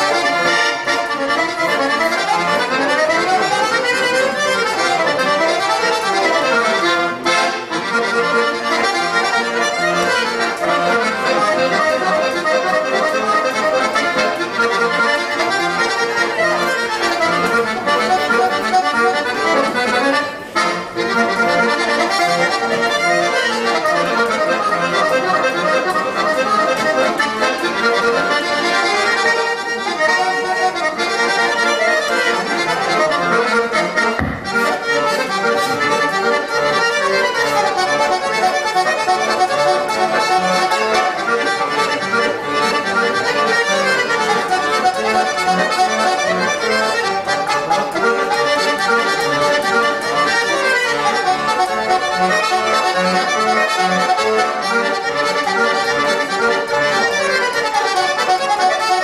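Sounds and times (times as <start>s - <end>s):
accordion playing: 0.0s - 59.0s.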